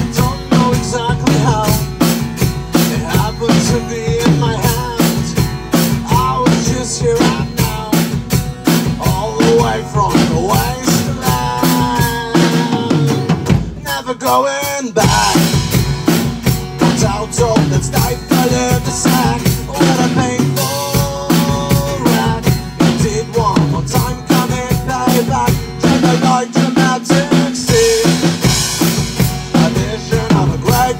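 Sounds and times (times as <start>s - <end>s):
bass: 0.0s - 30.9s
drum kit: 0.0s - 30.9s
guitar with bent notes: 0.0s - 30.9s.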